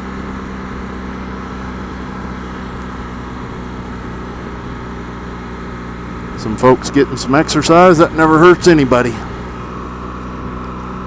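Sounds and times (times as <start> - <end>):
motorcycle engine droning: 0.0 - 11.0
wind and road noise: 0.0 - 11.0.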